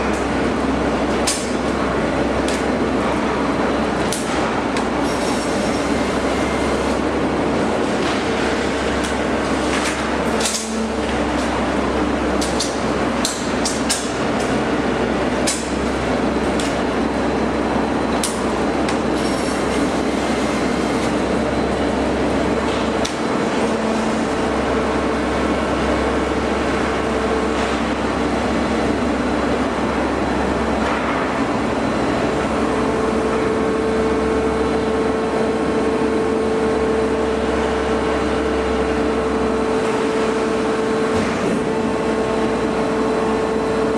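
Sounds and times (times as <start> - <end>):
baler machine drone: 0.0 - 43.9
steady hum: 0.0 - 43.9.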